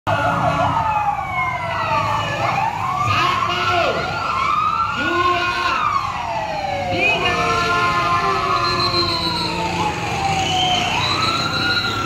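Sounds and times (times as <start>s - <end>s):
fire truck sirens wailing: 0.1s - 12.0s.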